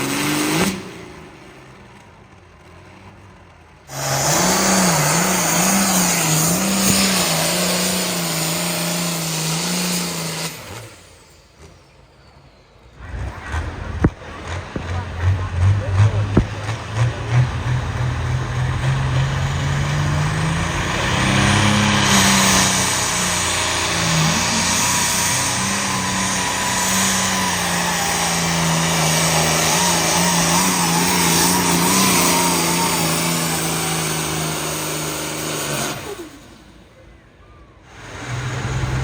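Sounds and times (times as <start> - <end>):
engine at high revs under load: 0.0 - 12.2, 12.8 - 36.9, 37.8 - 39.0.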